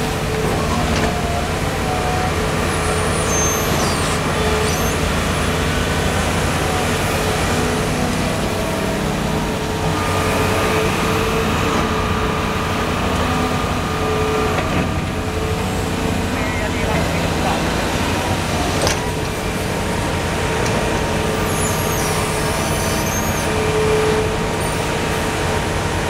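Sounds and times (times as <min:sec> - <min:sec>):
excavator diesel engine: 0:00.0 - 0:26.0
hydraulics whining: 0:00.0 - 0:26.0.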